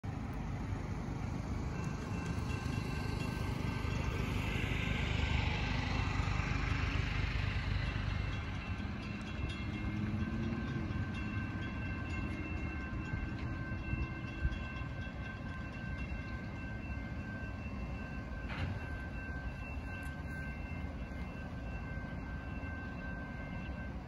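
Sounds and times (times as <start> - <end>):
distant diesel train rumble: 0.0 - 24.0.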